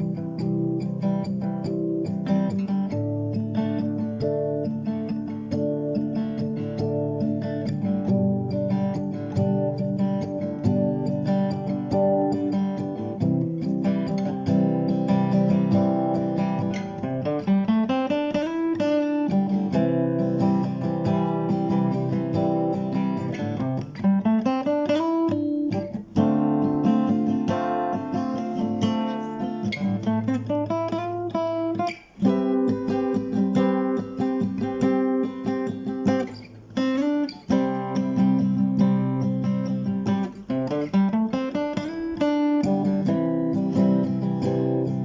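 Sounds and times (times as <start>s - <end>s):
acoustic guitar music: 0.0s - 45.0s.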